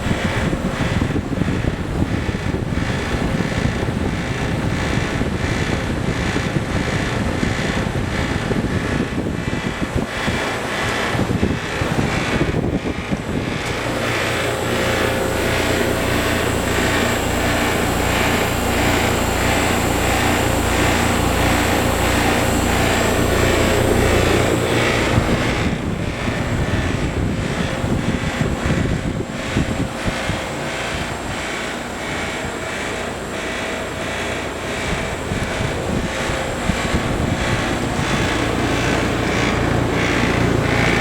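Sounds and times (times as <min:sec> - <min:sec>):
air conditioner fan whooshing: 0:00.0 - 0:41.0
pulsing low hum with rattle: 0:00.0 - 0:41.0.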